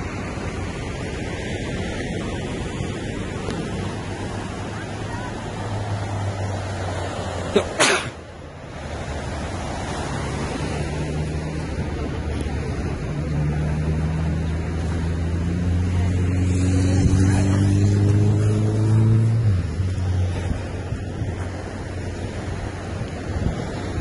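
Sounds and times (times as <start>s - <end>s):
sea noise: 0.0s - 24.0s
wind: 0.0s - 24.0s.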